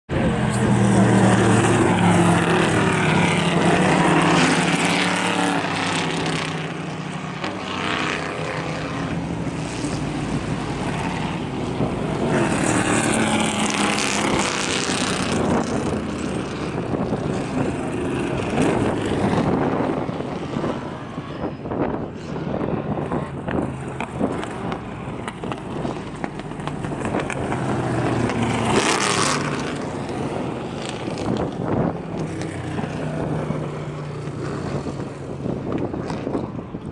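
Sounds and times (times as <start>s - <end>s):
race cars driving past: 0.1s - 36.9s.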